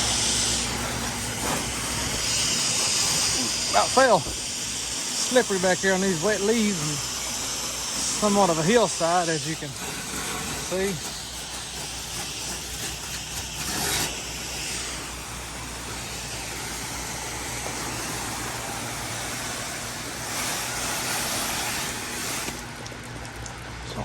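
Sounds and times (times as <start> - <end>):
spray wand hissing: 0.0 - 22.9
pressure washer engine running: 0.0 - 24.0.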